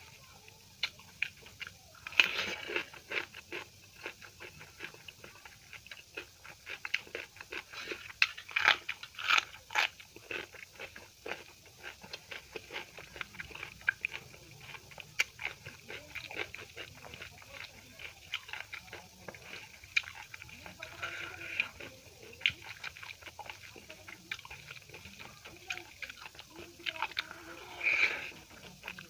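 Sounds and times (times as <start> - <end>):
person chewing and biting: 0.8 - 29.0.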